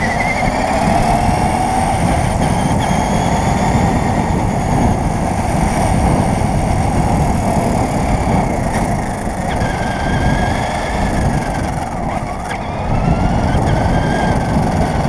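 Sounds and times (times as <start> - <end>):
tyres rumbling over pavement: 0.0 - 15.0.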